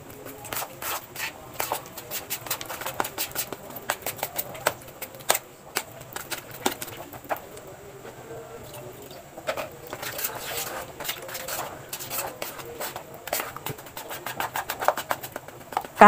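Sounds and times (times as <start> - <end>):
wet squelches of batter: 0.0 - 16.0.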